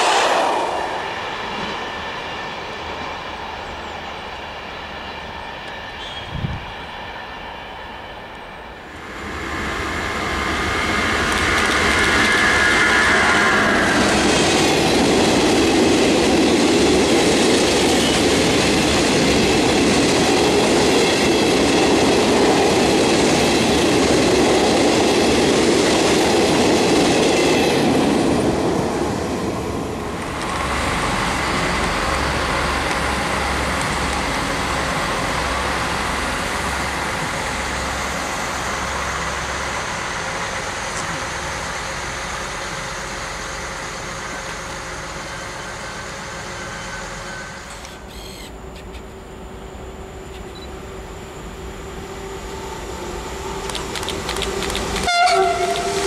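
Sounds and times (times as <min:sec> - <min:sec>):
train running with pulsing hum: 0:00.0 - 0:56.0.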